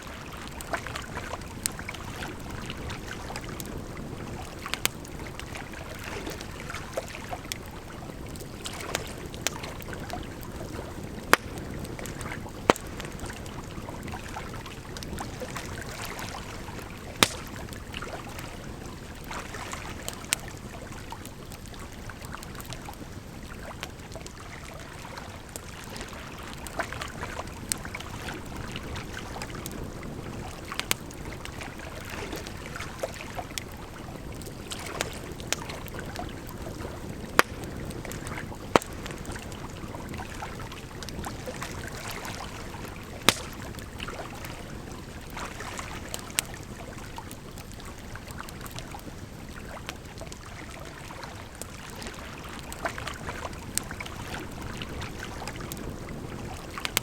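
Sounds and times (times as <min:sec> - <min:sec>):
campfire crackling and popping: 0:00.1 - 0:57.0.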